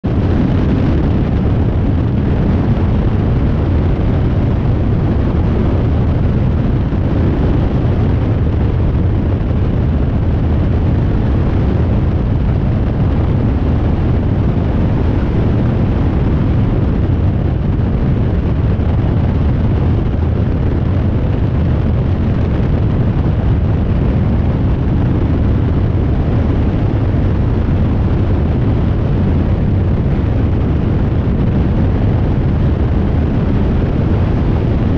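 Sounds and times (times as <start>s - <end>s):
light aircraft engine droning: 0.0s - 34.9s
wind rushing over microphone: 0.0s - 34.9s.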